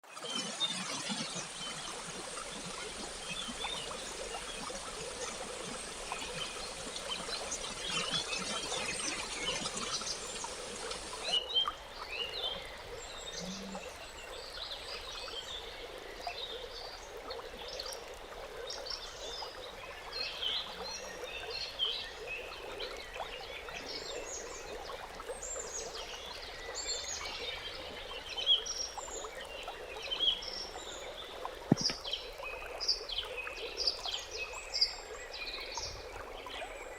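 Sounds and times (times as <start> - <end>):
rushing water-like noise: 0.0 - 22.1, 22.8 - 36.9.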